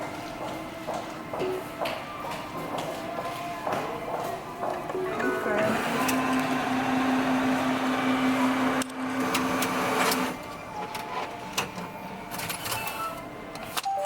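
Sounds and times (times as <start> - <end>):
machine mechanism whirring: 2.5 - 13.8.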